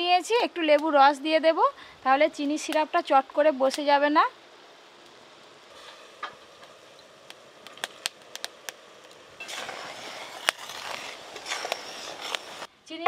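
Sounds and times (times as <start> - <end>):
syrup simmering hiss: 0.0 - 12.7.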